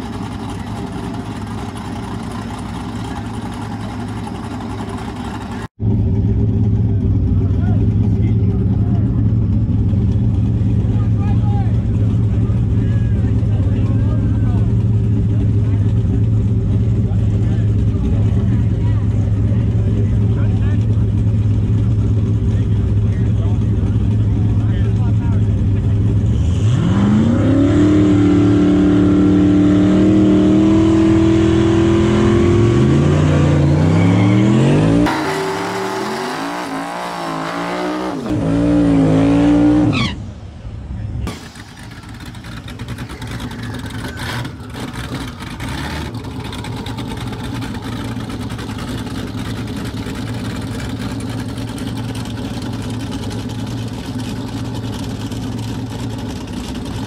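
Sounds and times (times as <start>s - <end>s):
drag car engine revving: 0.0s - 40.3s, 41.2s - 57.0s.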